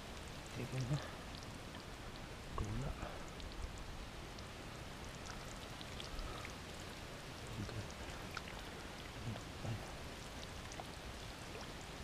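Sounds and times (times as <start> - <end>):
small water drips and splashes: 0.0 - 12.0.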